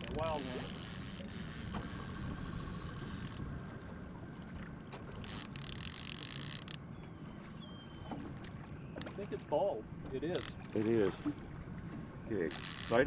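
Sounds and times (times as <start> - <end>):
outboard motor rumble: 0.0 - 13.0
water washing along hull: 0.0 - 13.0.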